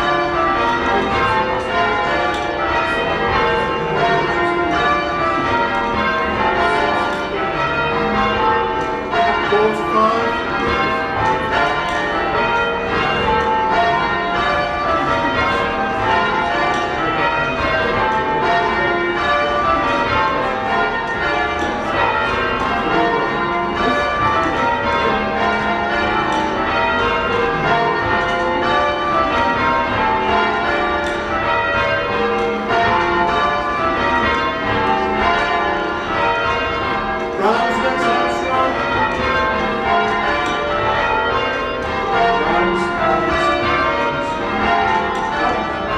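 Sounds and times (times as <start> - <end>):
church bells change ringing: 0.0 - 45.9.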